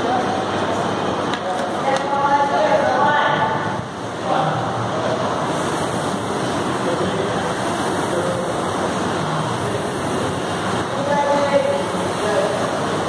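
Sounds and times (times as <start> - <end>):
rowing machine fan whooshing: 2.4 - 13.0.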